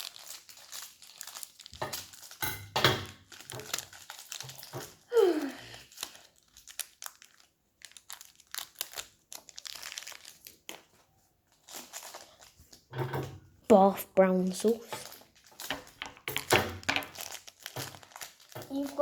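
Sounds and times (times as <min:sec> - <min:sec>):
plastic packaging crinkling and tearing: 0:00.0 - 0:02.4, 0:03.0 - 0:12.9, 0:14.2 - 0:19.0.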